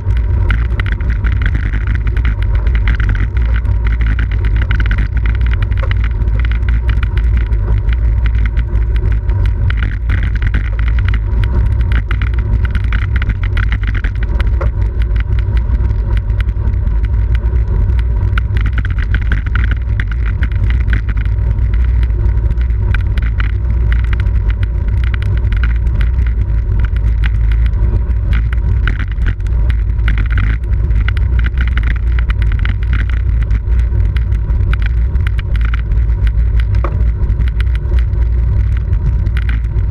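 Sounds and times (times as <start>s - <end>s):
bicycle tyre and road noise: 0.0s - 39.9s.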